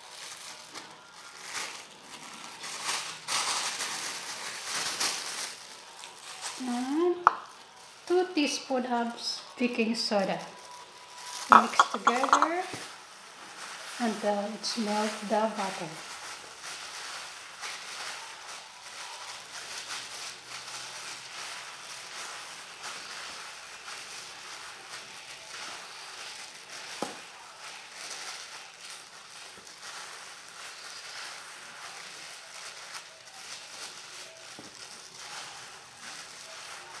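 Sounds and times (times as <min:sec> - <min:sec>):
crumbly mixture rustling: 0:00.0 - 0:37.0
plastic glove crinkling: 0:00.0 - 0:37.0.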